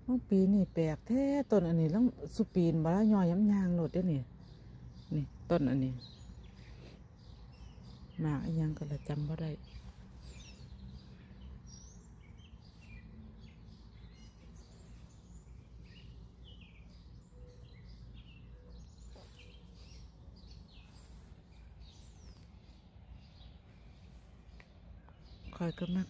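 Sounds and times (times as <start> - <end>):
birds chirping: 0.0 - 26.0
low background rumble: 0.0 - 26.0.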